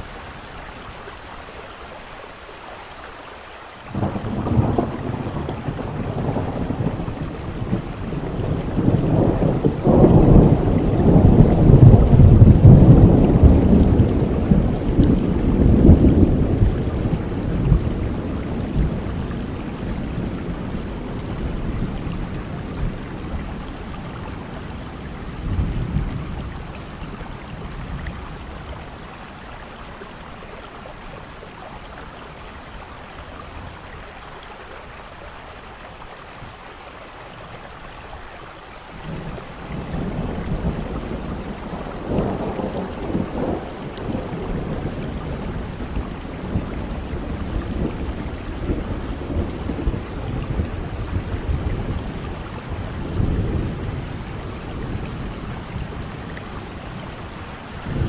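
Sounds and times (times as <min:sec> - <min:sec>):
rain falling: 0:00.0 - 0:58.0
thunder rumbling: 0:03.9 - 0:31.8, 0:39.0 - 0:58.0.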